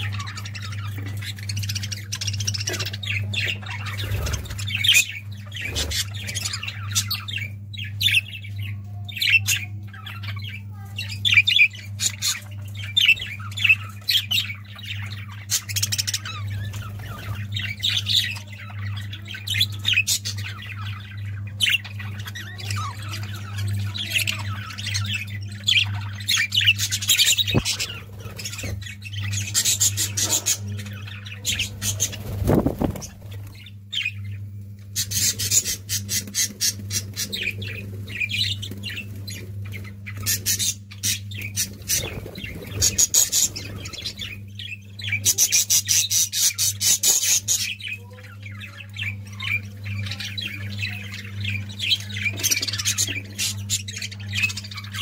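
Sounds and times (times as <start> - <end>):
budgerigars chattering and squawking: 0.0 - 55.0.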